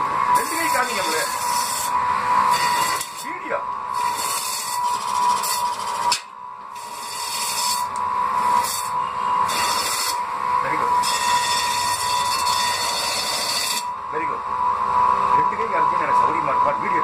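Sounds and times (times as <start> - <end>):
chicken cutting machine whining: 0.0 - 17.0.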